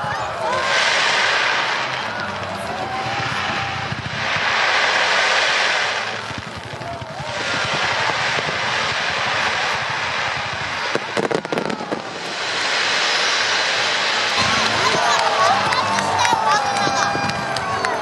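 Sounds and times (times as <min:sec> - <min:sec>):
fireworks bursts and crackle: 0:00.0 - 0:18.0.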